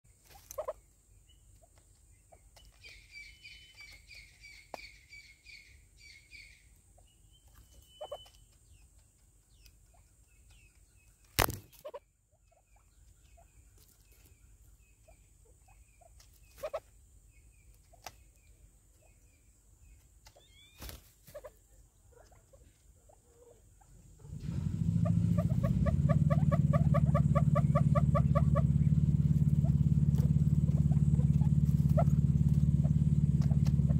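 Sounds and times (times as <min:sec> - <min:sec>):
faint bird chirps: 0:00.1 - 0:24.4, 0:25.0 - 0:33.9.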